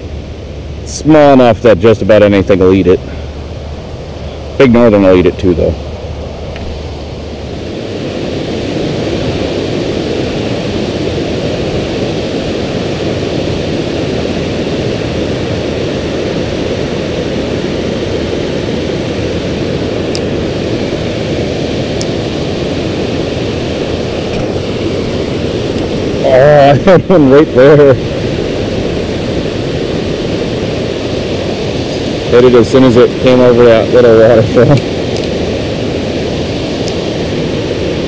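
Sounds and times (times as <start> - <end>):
water rushing over spillway: 0.0 - 38.0.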